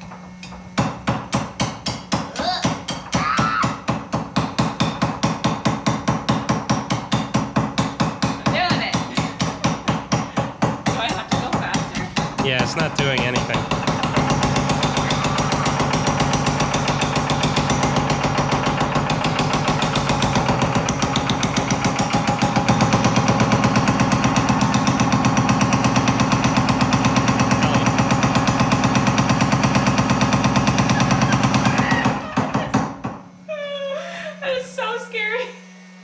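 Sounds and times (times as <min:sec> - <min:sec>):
power hammer on sheet metal: 0:00.0 - 0:33.4.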